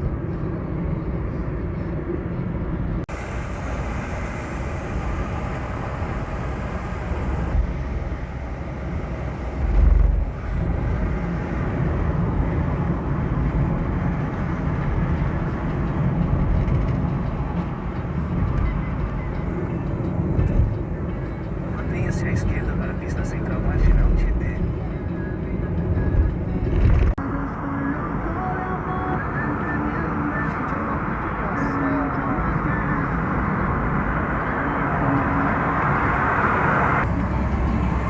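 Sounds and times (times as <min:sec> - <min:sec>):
car interior road rumble: 0:00.0 - 0:38.0.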